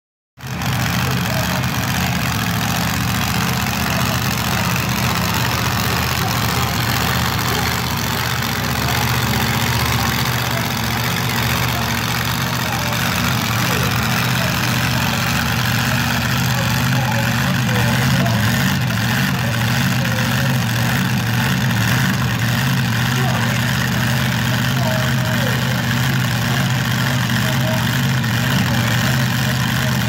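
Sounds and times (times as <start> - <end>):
truck engine running steadily: 0.4 - 30.0.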